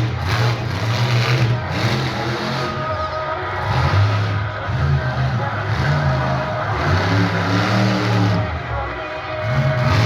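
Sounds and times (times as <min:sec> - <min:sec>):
background music: 0:00.0 - 0:10.0
truck engine revving: 0:00.0 - 0:10.0.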